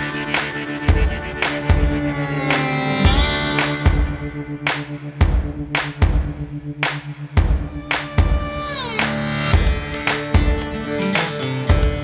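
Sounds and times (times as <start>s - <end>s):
drum beat over held chords: 0.0s - 12.0s.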